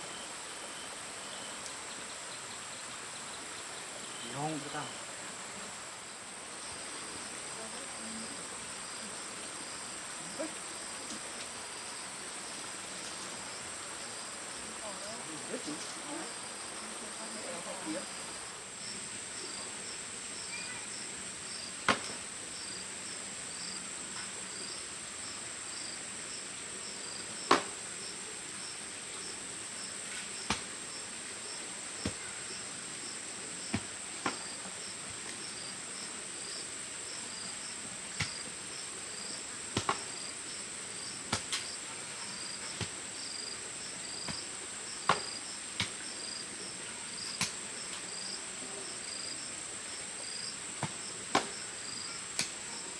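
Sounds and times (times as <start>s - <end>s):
crickets trilling: 0.0s - 52.9s.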